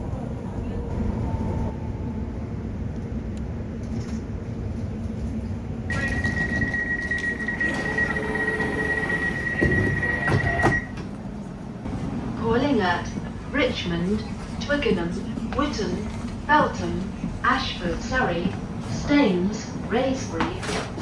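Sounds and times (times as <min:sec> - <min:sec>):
train carriage rumble and hum: 0:00.0 - 0:21.0.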